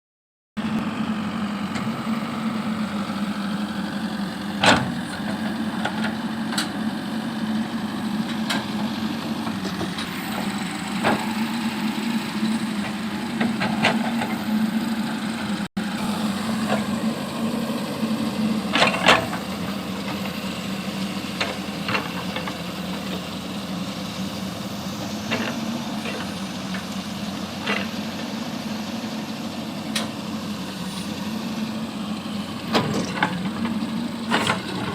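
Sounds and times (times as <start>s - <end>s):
diesel engine running: 0.6s - 34.9s.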